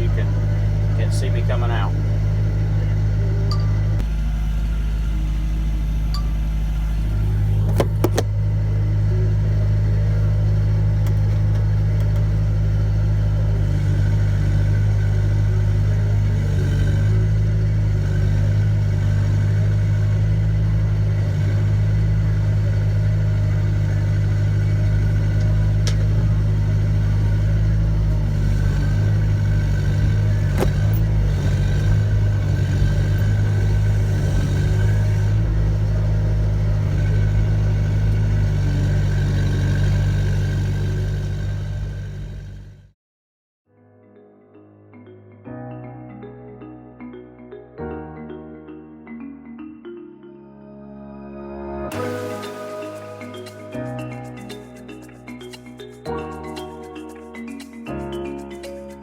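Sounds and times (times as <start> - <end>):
excavator diesel engine running: 0.0 - 42.9, 51.9 - 56.6.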